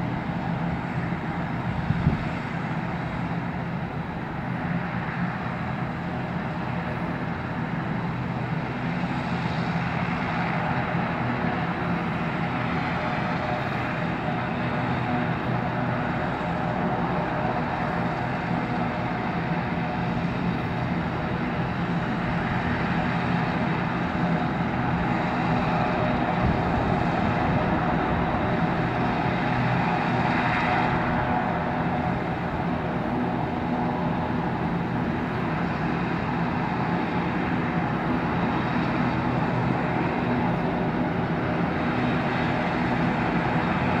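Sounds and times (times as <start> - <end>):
helicopter turbine engines and rotor: 0.0 - 44.0.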